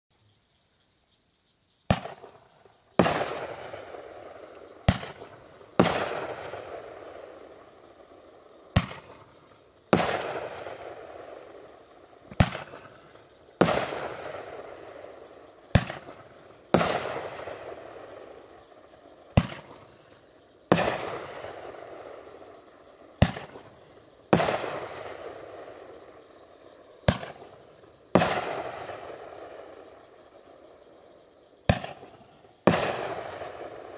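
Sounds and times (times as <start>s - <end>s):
firework aerial bursts: 1.9s - 29.9s.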